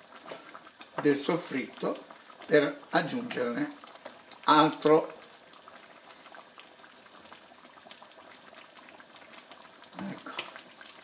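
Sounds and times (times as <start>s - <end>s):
sauce bubbles popping softly: 0.0s - 11.0s.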